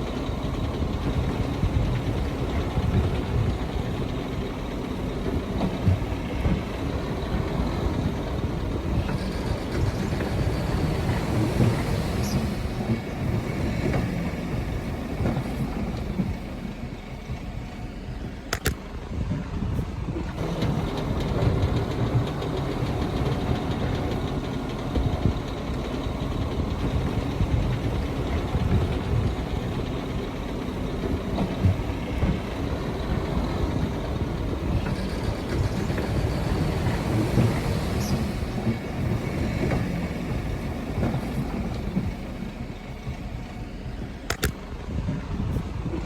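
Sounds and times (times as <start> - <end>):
diesel engine rumbling: 0.0 - 46.0
machinery knocks and rattles: 0.0 - 46.0.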